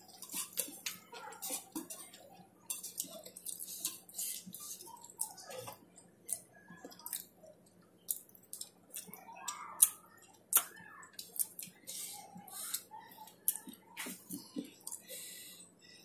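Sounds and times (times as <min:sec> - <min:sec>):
chewing with wet lip smacks: 0:00.1 - 0:15.0.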